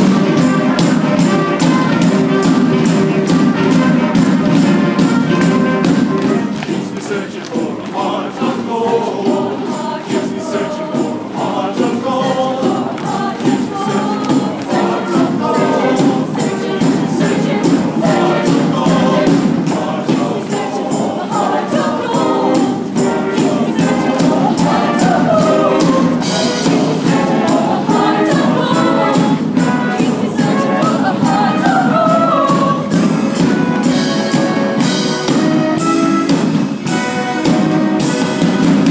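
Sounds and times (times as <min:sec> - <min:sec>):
accompaniment with steady beat: 0:00.0 - 0:38.9
choir singing upbeat song: 0:00.0 - 0:38.9.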